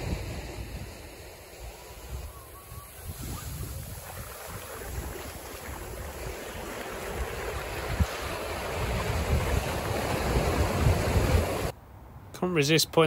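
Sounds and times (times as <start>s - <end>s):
waves washing onto beach: 0.0s - 11.7s
wind gusting on microphone: 0.0s - 11.7s.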